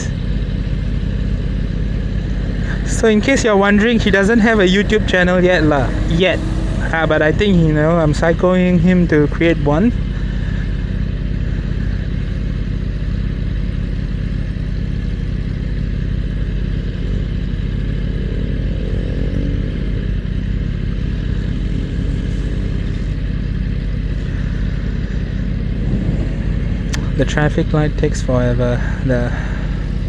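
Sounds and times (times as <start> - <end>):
faint wavering engine tone: 0.0 - 30.0
motorcycle engine running steadily: 0.0 - 30.0.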